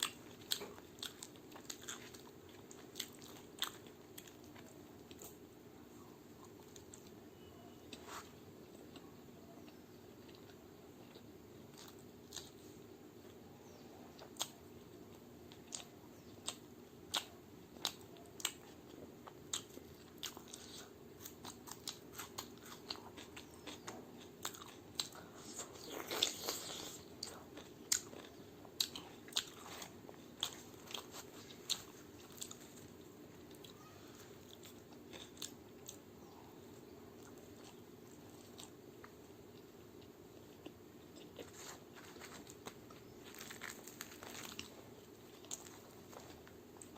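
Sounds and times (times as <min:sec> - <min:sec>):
crunchy food being chewed: 0:00.0 - 0:46.9
faint low hum: 0:00.0 - 0:46.9.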